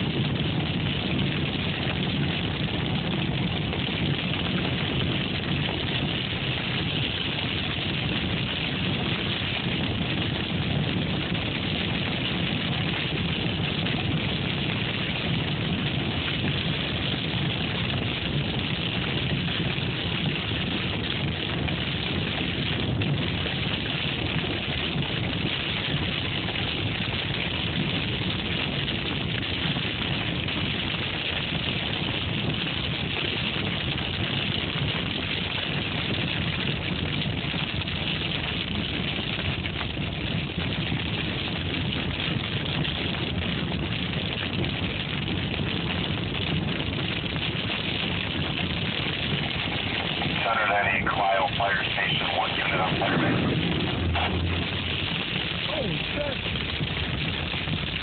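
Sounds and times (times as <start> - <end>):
tyre and road noise on wet pavement: 0.0 - 58.0.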